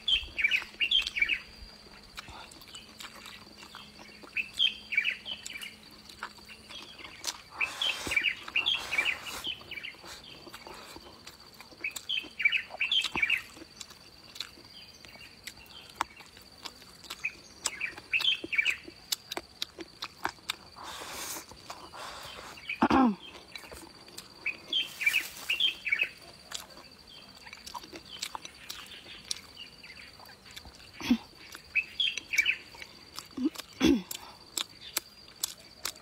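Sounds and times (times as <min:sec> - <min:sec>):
small birds chirping: 0:00.0 - 0:36.0
person chewing with mouth clicks: 0:00.4 - 0:36.0.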